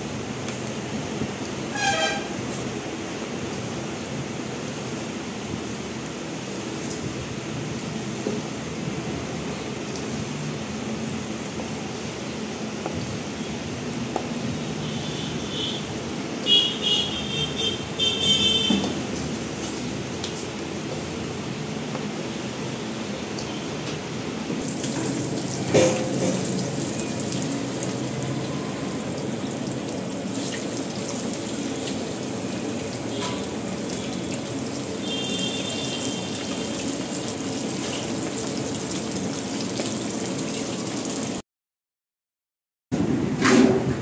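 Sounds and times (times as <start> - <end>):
chicken sizzling in hot oil: 0.0 - 17.0, 17.7 - 23.8, 24.6 - 41.4.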